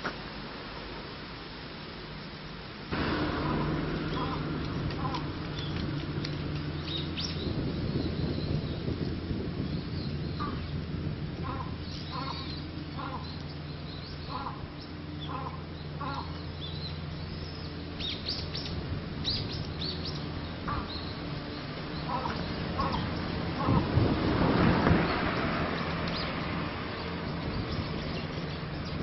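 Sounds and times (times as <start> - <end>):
steady low hum: 0.2 - 29.0
birds calling: 2.9 - 29.0.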